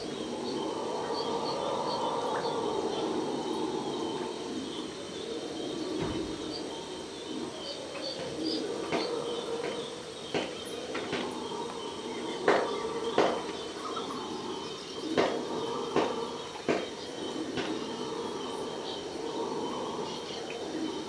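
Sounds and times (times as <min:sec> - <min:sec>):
distant howler monkeys calling: 0:00.0 - 0:21.0.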